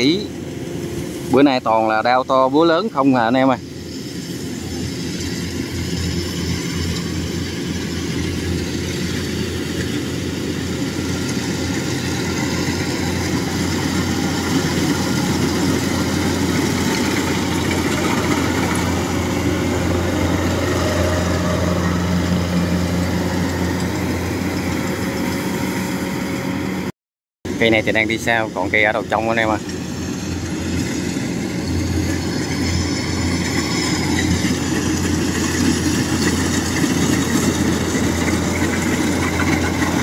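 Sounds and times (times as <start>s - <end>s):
combine harvester engine running: 0.0s - 26.9s, 27.5s - 40.0s.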